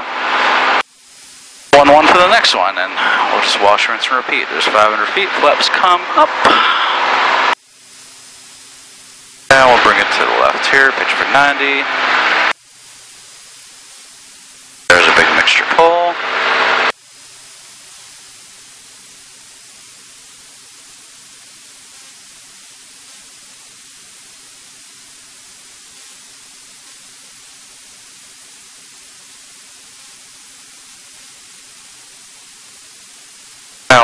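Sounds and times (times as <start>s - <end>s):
intercom electronic hiss: 0.6s - 34.0s.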